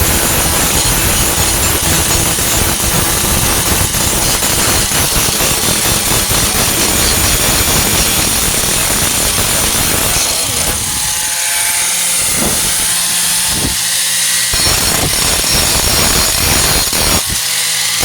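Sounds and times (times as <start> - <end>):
angle grinder grinding metal: 0.0 - 18.0.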